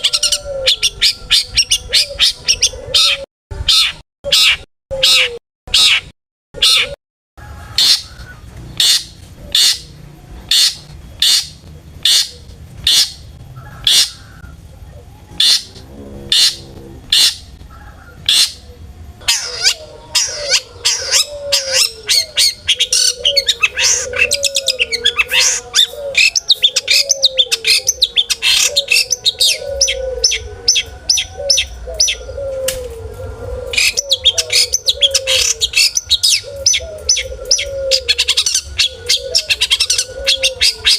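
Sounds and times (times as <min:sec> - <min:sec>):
bird harsh sharp calls: 0:00.0 - 0:40.9.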